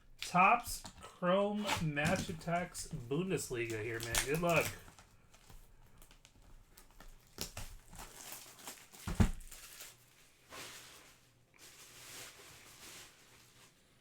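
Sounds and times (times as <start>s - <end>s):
wrappers tearing and crinkling: 1.6s - 13.9s.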